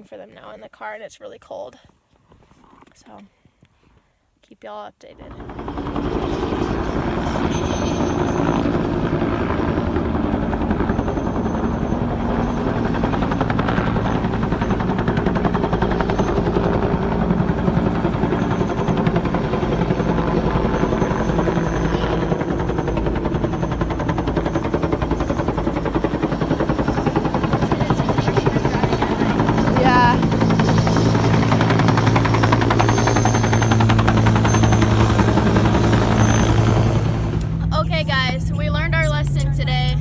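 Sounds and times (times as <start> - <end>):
helicopter rotor chopping: 5.2 - 40.0.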